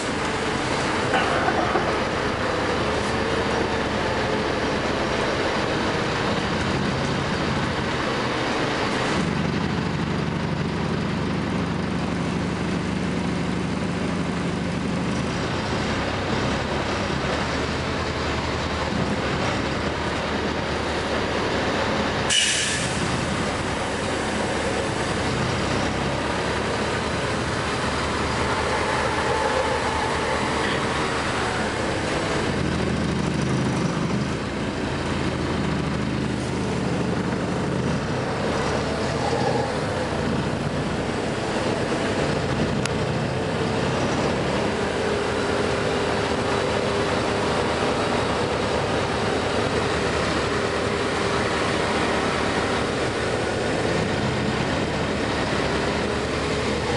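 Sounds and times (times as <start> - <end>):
bus engine and road noise: 0.0 - 56.9.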